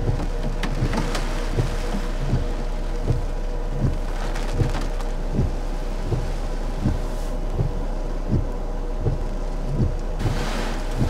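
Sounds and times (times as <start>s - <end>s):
rain on a car: 0.0s - 11.0s
steady low hum: 0.0s - 11.0s
windshield wipers thumping: 0.0s - 11.0s.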